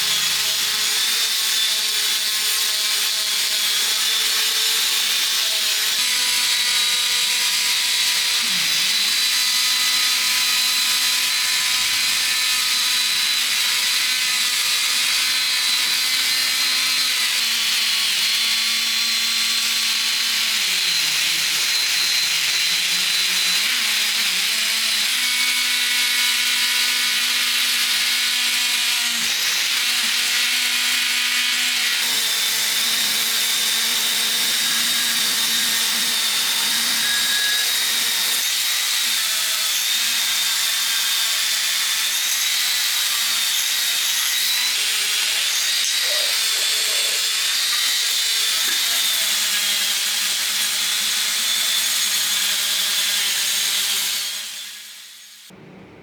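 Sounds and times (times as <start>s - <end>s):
power tool whining and grinding: 0.0s - 55.6s.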